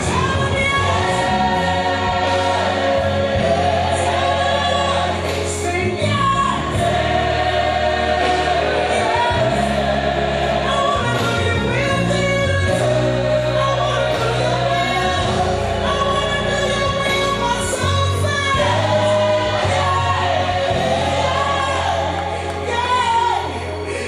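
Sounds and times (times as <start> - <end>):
choir singing gospel: 0.0 - 24.0
held bass notes: 0.0 - 24.0.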